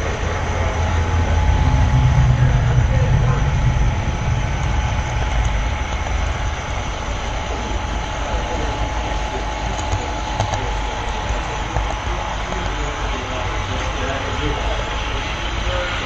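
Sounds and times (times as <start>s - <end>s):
faint steady whine: 0.0s - 16.0s
model train rolling rumble: 0.0s - 16.0s.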